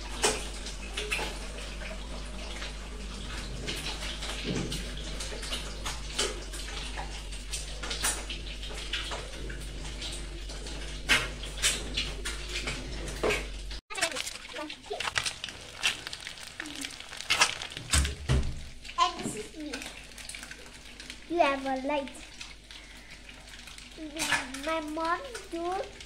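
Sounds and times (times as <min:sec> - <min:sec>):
kitchen clicks and clatters: 0:00.0 - 0:26.0.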